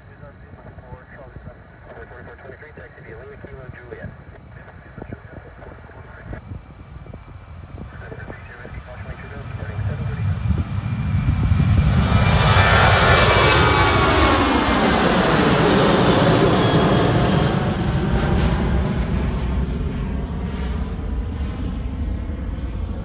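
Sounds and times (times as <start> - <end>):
airliner flying past: 0.0 - 23.0.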